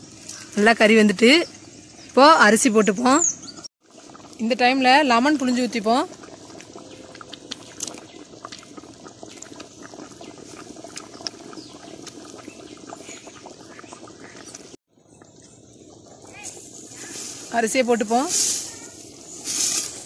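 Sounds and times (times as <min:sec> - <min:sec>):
gravy boiling and bubbling: 0:00.0 - 0:20.0.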